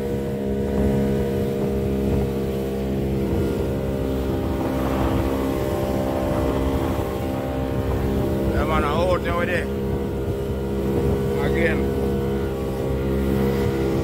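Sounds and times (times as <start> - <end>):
outboard motor running: 0.0 - 14.0
spray rushing along hull: 0.0 - 14.0.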